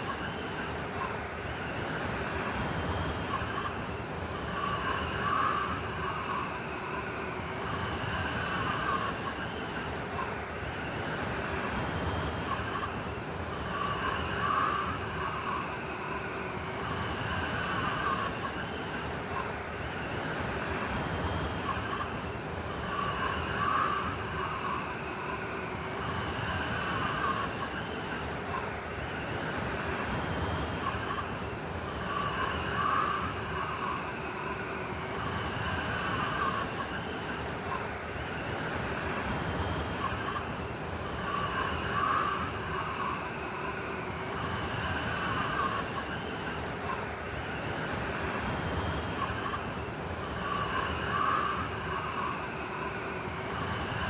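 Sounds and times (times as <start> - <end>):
howling blizzard wind: 0.0 - 54.0
whistling wind gusts: 0.0 - 54.0.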